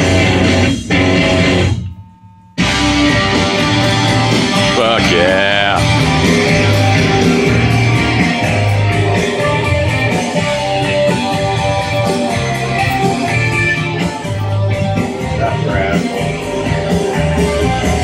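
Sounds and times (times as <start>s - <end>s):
loud rock music: 0.0s - 1.8s, 2.6s - 18.0s.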